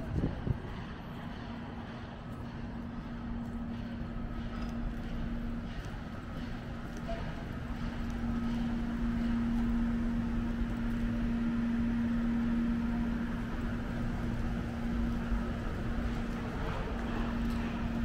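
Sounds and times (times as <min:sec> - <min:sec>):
city background rumble: 0:00.0 - 0:18.0
steady machine hum: 0:00.0 - 0:18.0.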